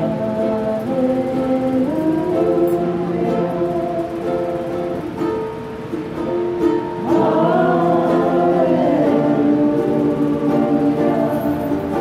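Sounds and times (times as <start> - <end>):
person singing: 0.0 - 5.5, 6.7 - 12.0
plucked string chords: 0.0 - 12.0.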